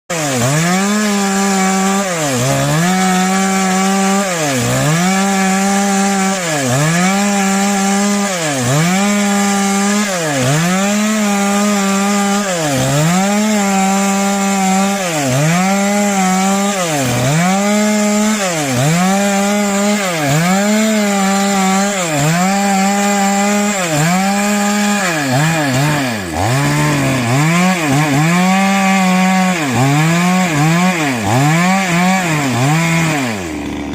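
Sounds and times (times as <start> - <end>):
small petrol engine at high revs: 0.1 - 33.9.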